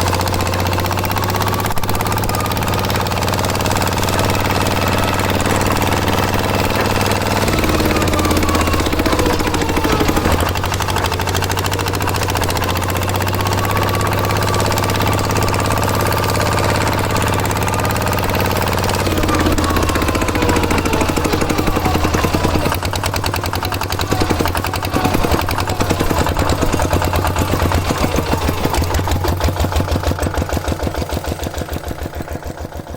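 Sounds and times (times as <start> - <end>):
small tractor engine knocking: 0.0 - 32.9.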